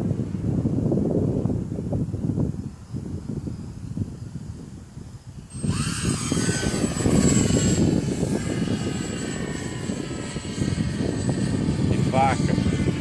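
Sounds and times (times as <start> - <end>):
model airplane motor whine: 0.0 - 13.0
wind rumble on microphone: 0.0 - 13.0.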